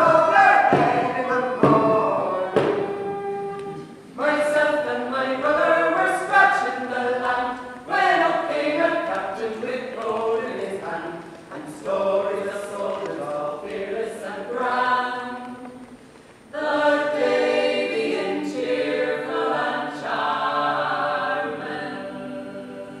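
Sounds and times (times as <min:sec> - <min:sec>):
voices singing in harmony: 0:00.0 - 0:23.0.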